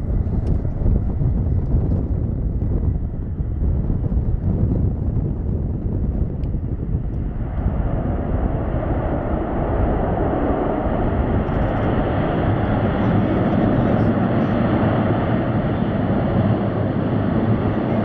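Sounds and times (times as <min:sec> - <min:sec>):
turboprop engines rumbling: 0:00.0 - 0:18.0.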